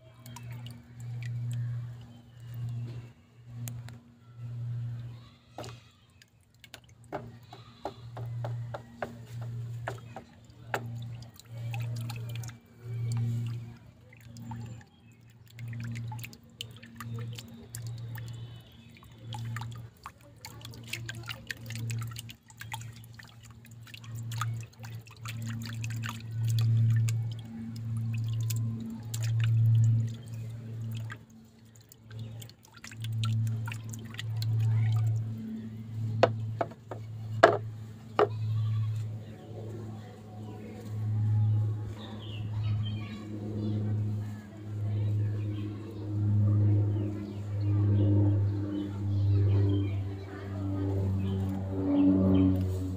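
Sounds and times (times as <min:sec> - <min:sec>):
low pulsing hum: 0:00.0 - 0:52.9.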